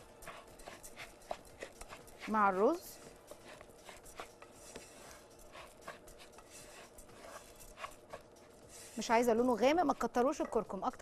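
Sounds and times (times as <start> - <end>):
spoon stirring rice in pot: 0.0 - 11.0.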